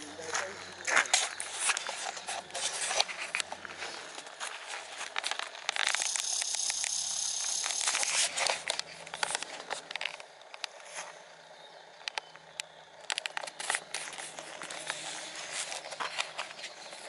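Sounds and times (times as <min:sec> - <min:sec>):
leaves and twigs crackling: 0:00.0 - 0:11.5, 0:12.9 - 0:17.0.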